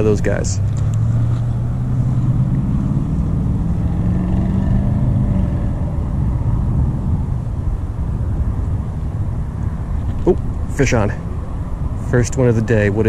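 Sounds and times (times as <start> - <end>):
engine hum: 0.0 - 13.0
wind rumbling on microphone: 0.0 - 13.0.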